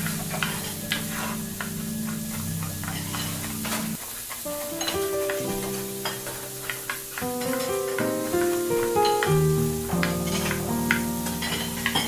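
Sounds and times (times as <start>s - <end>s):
background music with held chords: 0.0s - 12.0s
onion and mushroom sizzling in oil: 0.0s - 12.0s.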